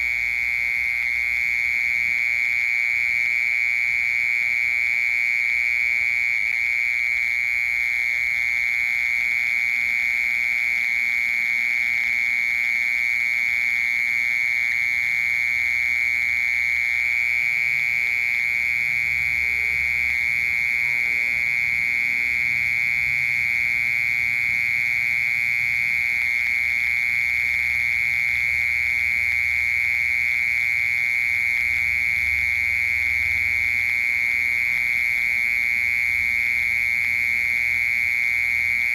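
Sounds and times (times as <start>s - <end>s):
mole cricket trilling: 0.0s - 38.9s.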